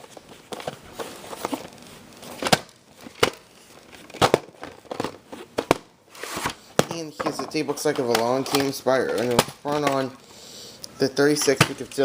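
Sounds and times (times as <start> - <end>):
plastic rustling: 0.0 - 10.3.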